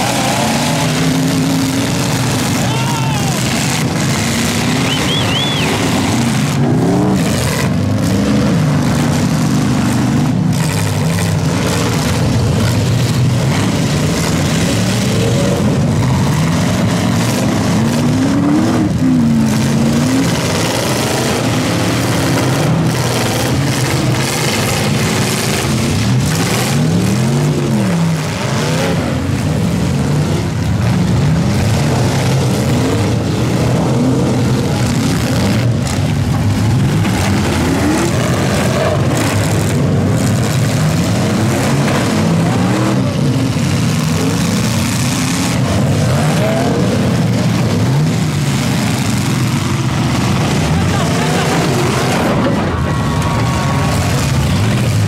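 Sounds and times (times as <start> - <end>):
truck engines revving: 0.0 - 55.0
trucks crashing: 0.0 - 55.0.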